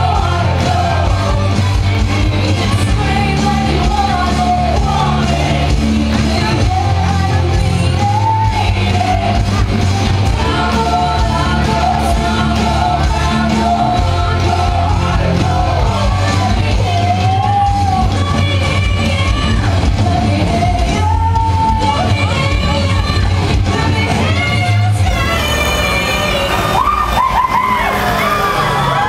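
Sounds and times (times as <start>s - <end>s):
heavy bass line: 0.0s - 29.0s
loud music with singing: 0.0s - 29.0s.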